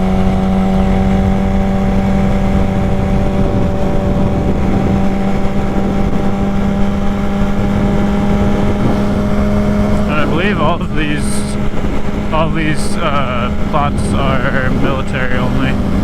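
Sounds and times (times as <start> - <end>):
motorcycle engine cruising: 0.0 - 16.0
wind rushing over microphone: 0.0 - 16.0.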